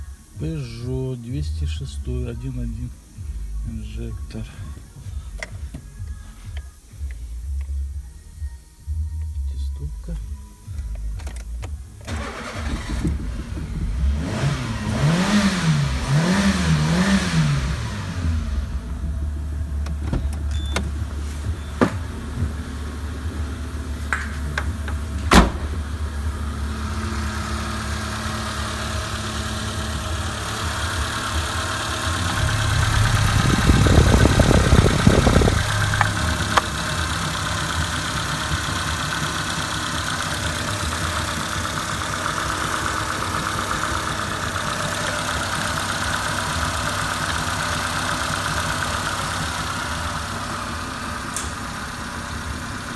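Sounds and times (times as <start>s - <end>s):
petrol engine idling and revving: 0.0s - 52.9s.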